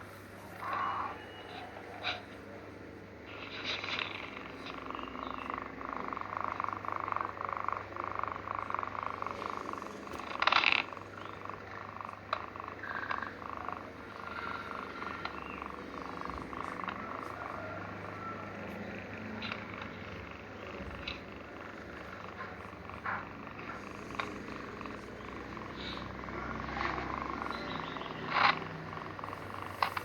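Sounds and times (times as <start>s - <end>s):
kitten snoring: 3.3s - 30.0s.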